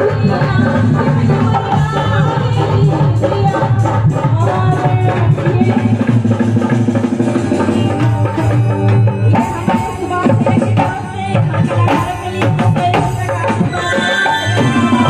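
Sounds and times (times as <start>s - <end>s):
keyboard and drums: 0.0s - 15.0s
woman singing into microphone: 0.0s - 15.0s.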